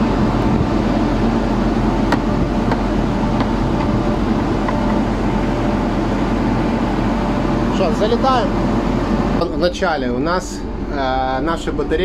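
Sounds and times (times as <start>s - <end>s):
ship machinery drone: 0.0s - 12.0s.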